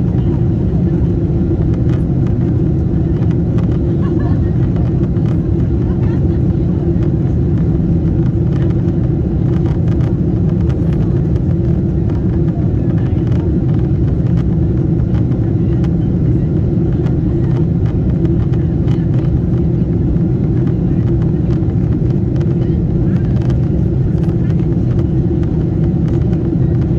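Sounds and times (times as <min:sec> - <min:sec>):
aircraft engine rumble in cabin: 0:00.0 - 0:26.9.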